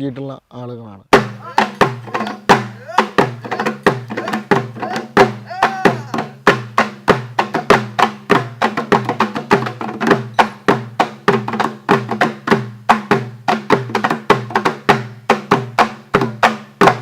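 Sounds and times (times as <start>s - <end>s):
drums beaten fast: 1.1s - 17.0s.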